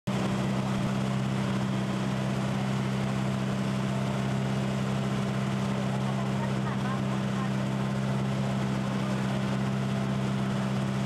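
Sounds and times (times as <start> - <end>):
boat engine humming: 0.1 - 11.0.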